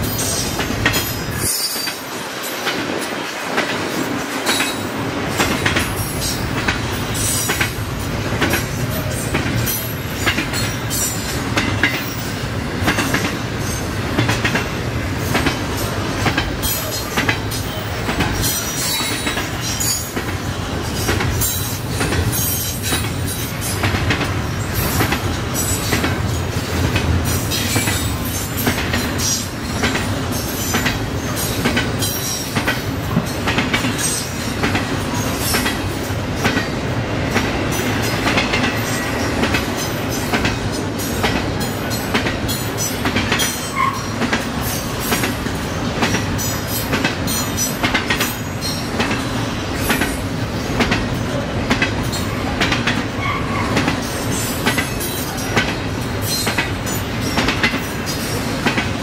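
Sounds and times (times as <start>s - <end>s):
train wheels clicking over rail joints: 0.0s - 59.0s.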